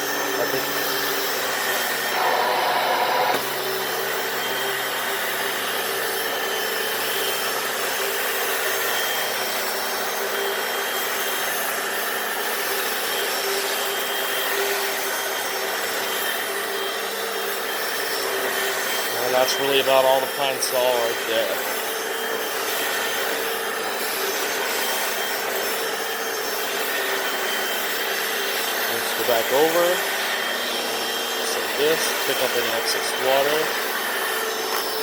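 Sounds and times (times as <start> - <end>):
floor cleaner scrubbing: 0.0 - 35.0.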